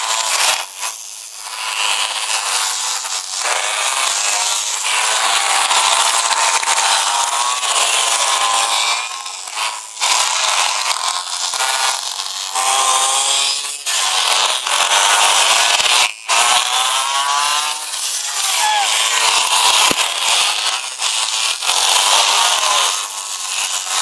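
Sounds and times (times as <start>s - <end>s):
two-stroke engines revving: 0.0s - 24.0s.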